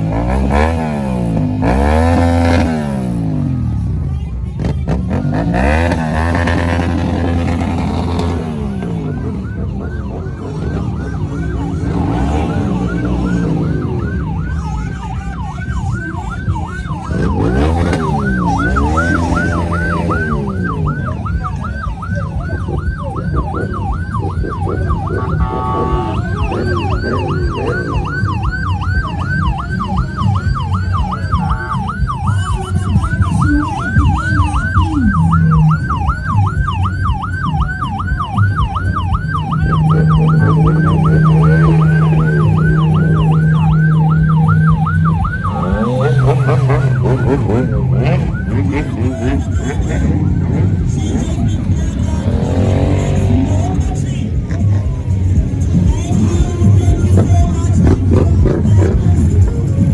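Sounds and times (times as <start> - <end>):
electronic siren yelping: 0.0 - 4.0, 4.6 - 59.9
engine revving: 0.0 - 59.9
motor engines running: 0.0 - 59.9.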